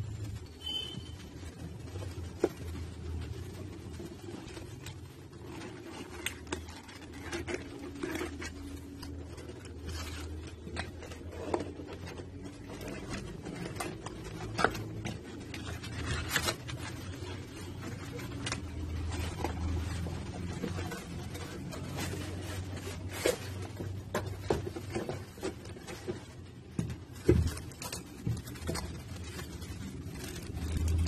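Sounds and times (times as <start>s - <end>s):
cardboard rustling: 0.0s - 31.0s
box scraping against cardboard: 0.4s - 31.0s.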